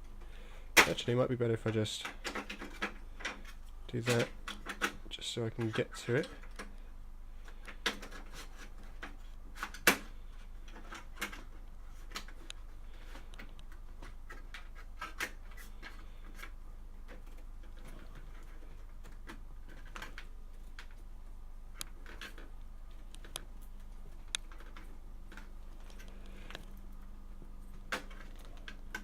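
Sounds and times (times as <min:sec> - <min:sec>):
steady low hum: 0:00.0 - 0:29.0
hands handling drive and connectors: 0:01.6 - 0:06.8, 0:07.4 - 0:21.1, 0:21.7 - 0:29.0.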